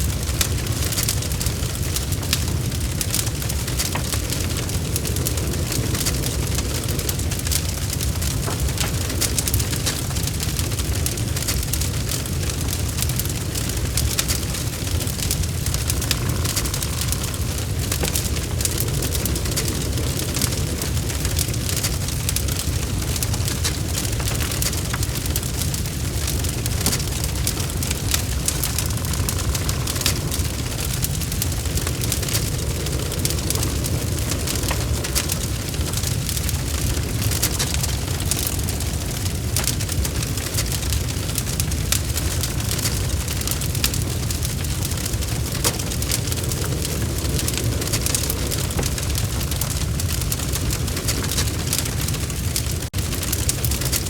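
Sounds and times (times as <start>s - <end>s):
log fire crackling: 0.0s - 54.0s.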